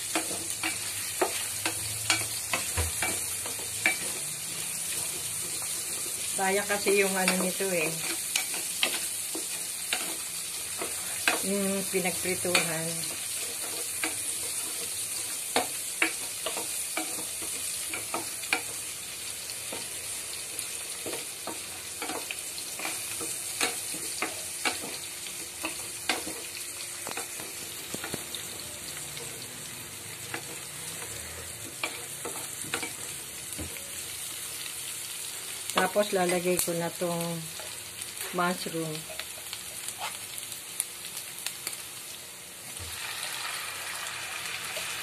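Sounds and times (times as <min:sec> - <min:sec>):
onions sizzling in hot oil: 0:00.0 - 0:45.0.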